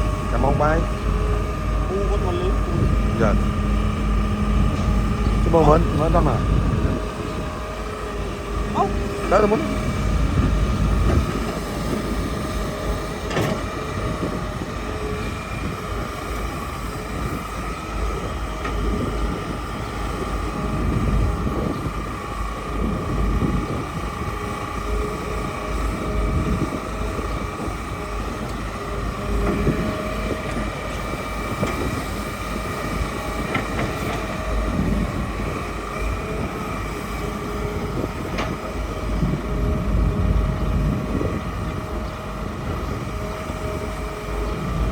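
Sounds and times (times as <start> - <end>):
constant mechanical whine: 0.0 - 44.9
excavator engine rumble: 0.0 - 44.9.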